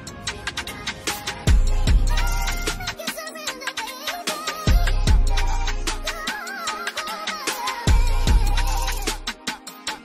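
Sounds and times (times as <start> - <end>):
steady beat: 0.0 - 10.0.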